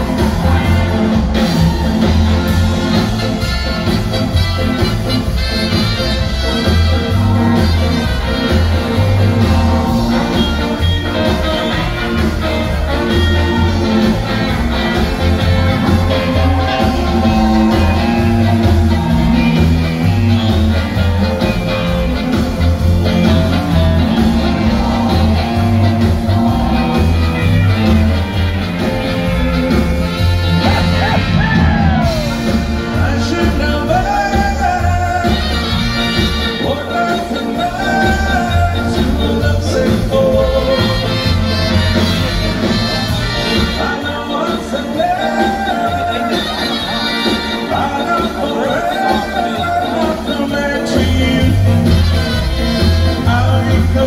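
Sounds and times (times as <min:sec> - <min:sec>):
country band playing live: 0:00.0 - 0:54.0.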